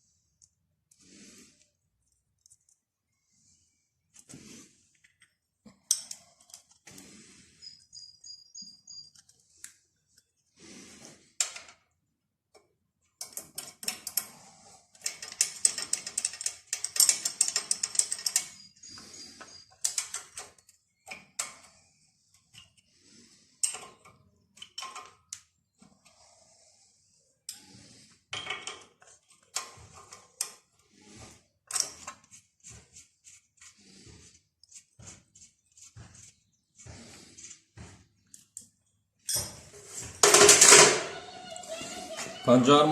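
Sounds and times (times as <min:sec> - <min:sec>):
hand tools on metal parts: 0:05.0 - 0:10.3, 0:12.5 - 0:26.4, 0:27.4 - 0:42.9.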